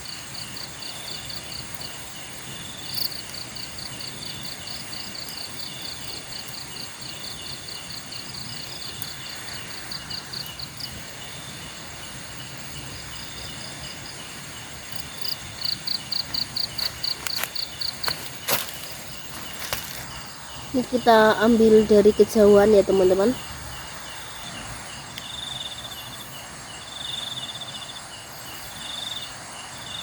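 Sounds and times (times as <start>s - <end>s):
cricket chirping in pulses: 0.0s - 30.0s
high insect trill: 0.0s - 30.0s.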